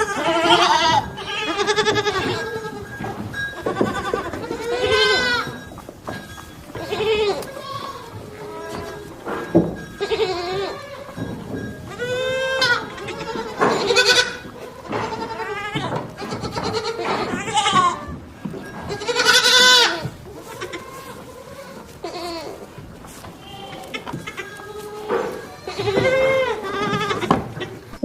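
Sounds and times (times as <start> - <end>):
goats bleating: 0.0 - 28.0.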